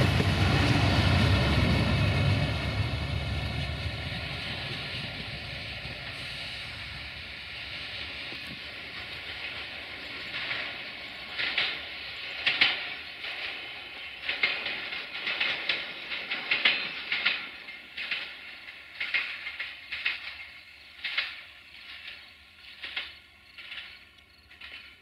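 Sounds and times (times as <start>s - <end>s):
train wheels hissing on rails: 0.0s - 25.0s
wheels clacking over rail joints: 0.0s - 25.0s.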